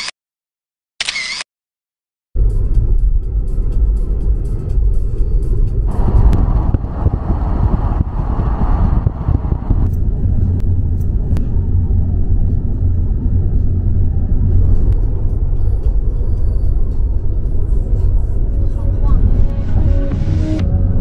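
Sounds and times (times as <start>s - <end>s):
road and tyre noise in car cabin: 2.4s - 21.0s.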